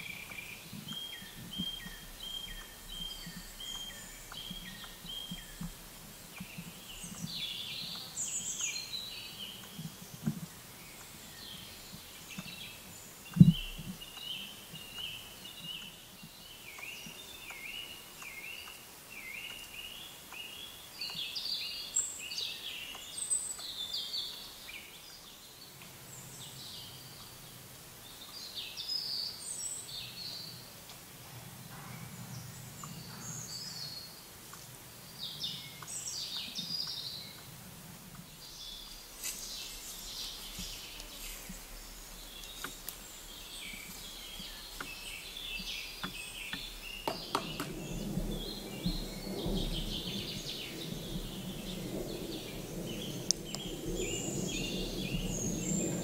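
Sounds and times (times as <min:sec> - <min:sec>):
songbirds chirping and singing: 0:00.0 - 0:30.9, 0:31.6 - 0:56.0.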